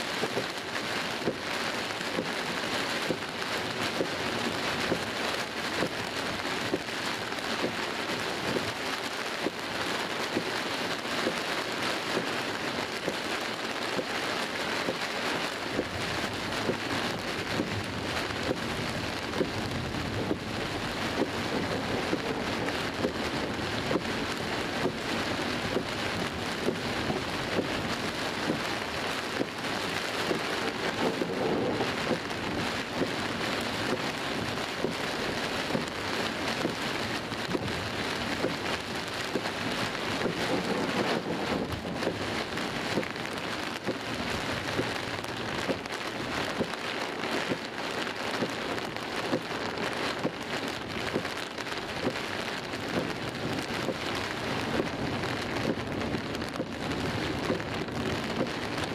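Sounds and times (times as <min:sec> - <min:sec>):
heavy rain on car windscreen: 0:00.0 - 0:58.9.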